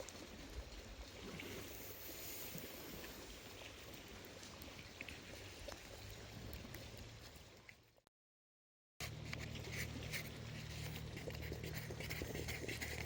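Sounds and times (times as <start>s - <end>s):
wind: 0.0s - 8.1s, 9.0s - 13.0s.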